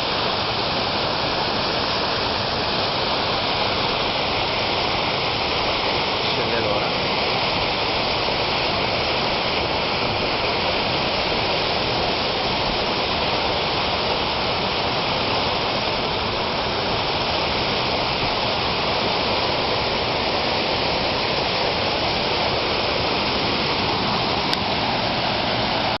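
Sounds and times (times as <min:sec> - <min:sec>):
water pouring down waterfall: 0:00.0 - 0:26.0.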